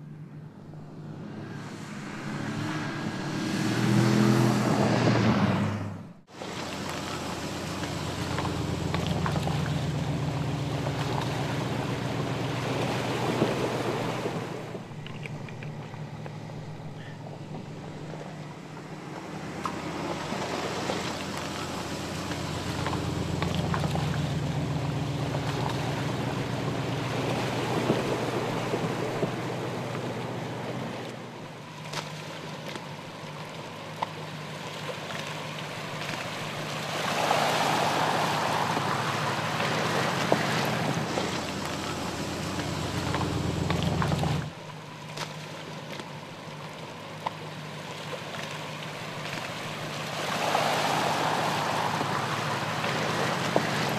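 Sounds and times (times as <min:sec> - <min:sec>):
car engine running at low revs: 0:00.0 - 0:53.9
tyres splashing through mud: 0:00.6 - 0:53.9.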